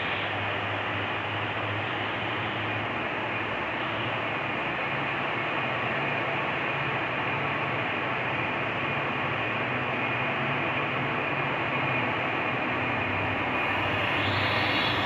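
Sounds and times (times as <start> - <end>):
diesel locomotive engine hum: 0.0 - 15.0.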